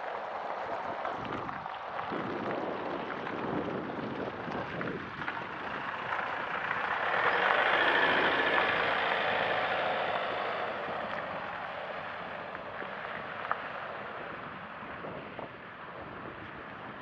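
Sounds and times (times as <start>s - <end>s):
tyres hissing on wet road: 0.1s - 15.4s.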